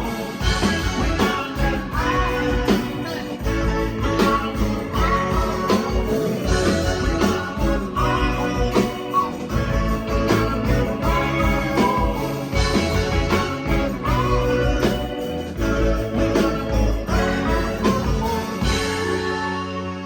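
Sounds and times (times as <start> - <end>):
bass: 0.0 - 20.0
drums steady beat: 0.0 - 20.0
guitar: 0.0 - 20.0
person singing: 0.0 - 20.0.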